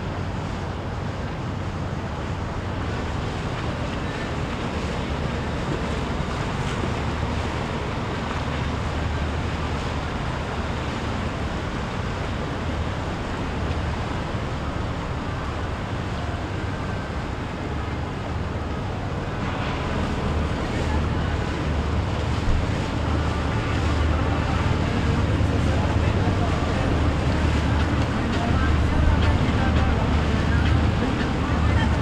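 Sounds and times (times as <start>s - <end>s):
boat engines running: 0.0s - 32.0s
waves: 0.0s - 32.0s.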